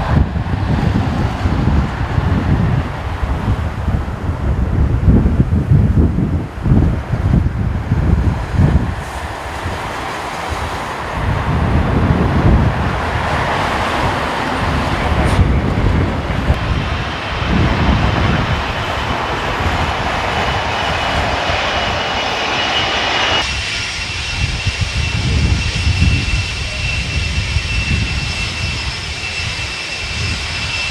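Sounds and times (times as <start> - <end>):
jet engines roaring: 0.0 - 30.9
wind buffeting microphone: 0.0 - 30.9.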